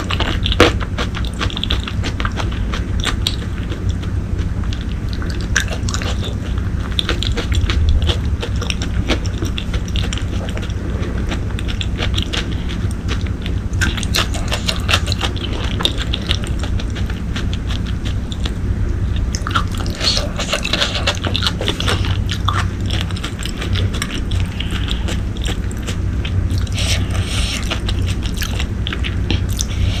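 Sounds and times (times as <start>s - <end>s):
low hum: 0.0s - 30.0s
mouth chewing and biting: 0.0s - 30.0s.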